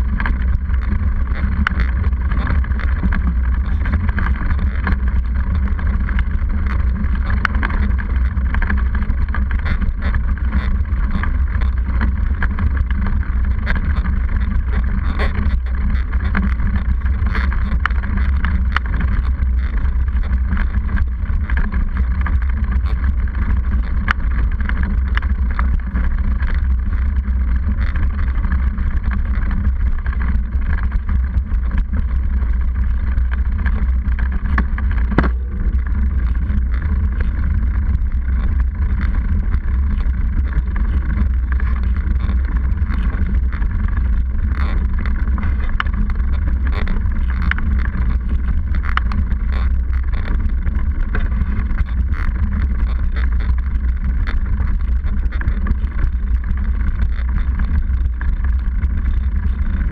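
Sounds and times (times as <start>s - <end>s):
bike rumbling on rough road: 0.0s - 59.9s
rattling clicks of bike: 0.0s - 59.9s.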